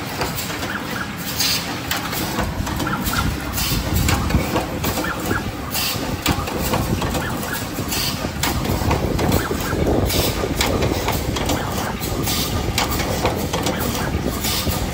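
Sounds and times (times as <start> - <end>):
low mechanical rumble: 0.0 - 14.9
machine hissing: 0.0 - 14.9
machine mechanism clicks: 0.0 - 14.9.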